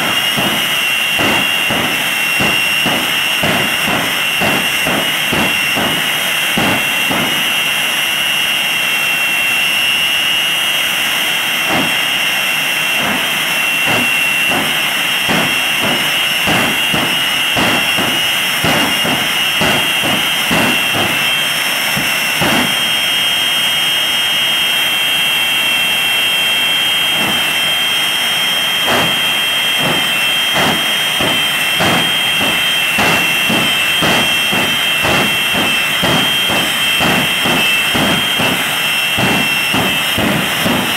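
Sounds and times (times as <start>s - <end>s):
gusty bursts of jet noise: 0.0s - 23.7s, 26.3s - 40.9s
jet engines idling whine: 0.0s - 40.9s.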